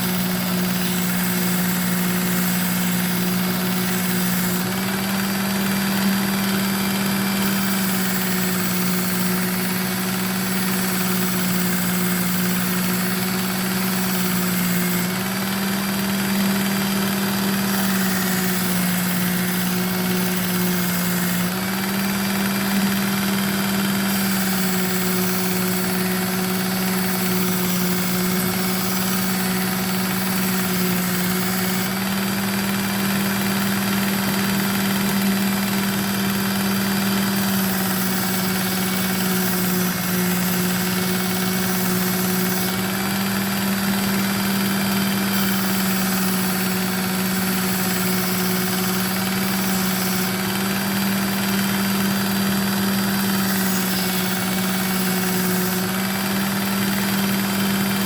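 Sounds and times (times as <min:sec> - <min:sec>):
belt sharpener running: 0:00.0 - 0:58.0.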